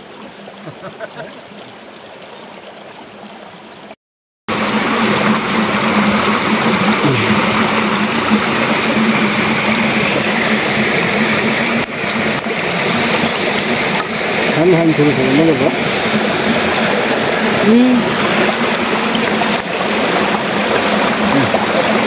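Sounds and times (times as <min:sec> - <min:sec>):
mountain stream over rocks: 0:00.0 - 0:22.0.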